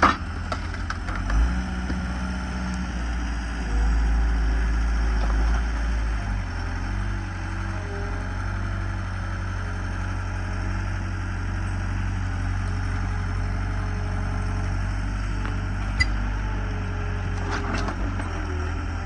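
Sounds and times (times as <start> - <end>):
skid steer engine running: 0.0 - 19.0.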